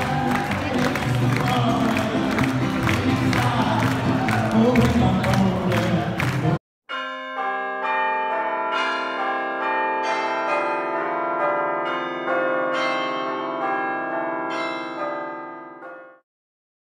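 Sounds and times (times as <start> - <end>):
church bells ringing: 0.0 - 16.2.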